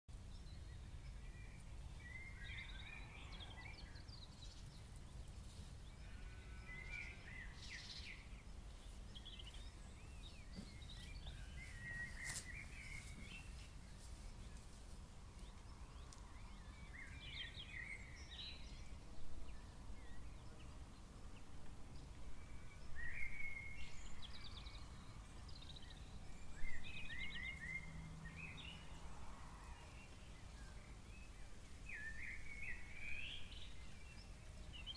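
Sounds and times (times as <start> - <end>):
night birds chirping: 0.1 - 34.9.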